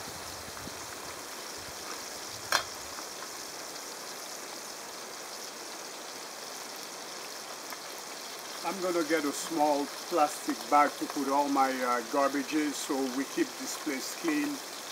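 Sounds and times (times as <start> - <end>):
fish sizzling in a frying pan: 0.0 - 14.9.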